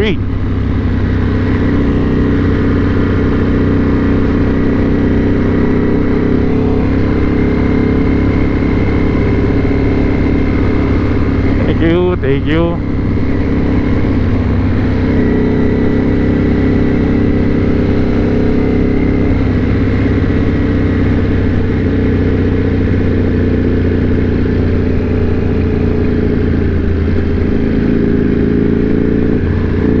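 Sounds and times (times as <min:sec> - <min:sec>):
motorcycle engine running steadily: 0:00.0 - 0:30.0.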